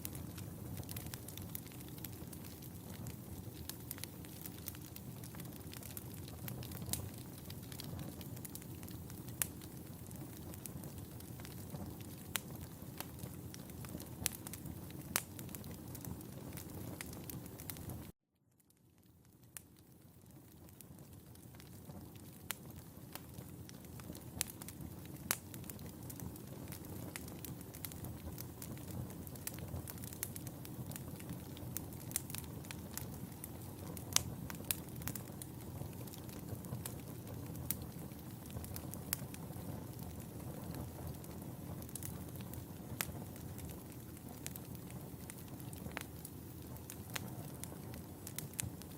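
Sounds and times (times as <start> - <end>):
fire pops and snaps: 0.0 - 18.1, 18.7 - 48.9
wood fire crackling: 0.0 - 48.9.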